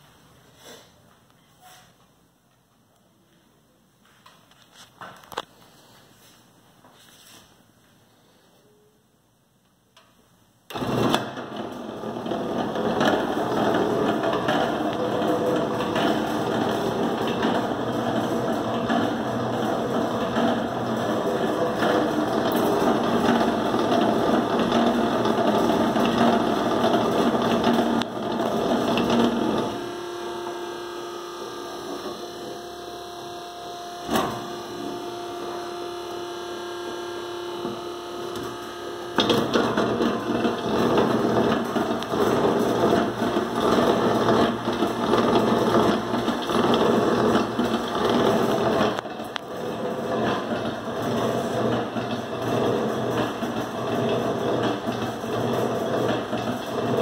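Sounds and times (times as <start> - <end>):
coffee roaster drum running: 10.7 - 57.0.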